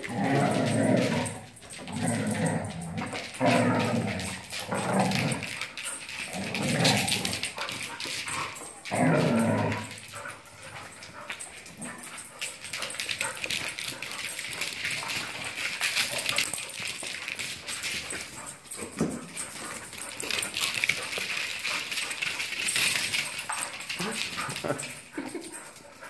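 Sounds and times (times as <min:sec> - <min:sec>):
dogs scuffling and claws clicking: 0:00.0 - 0:26.0.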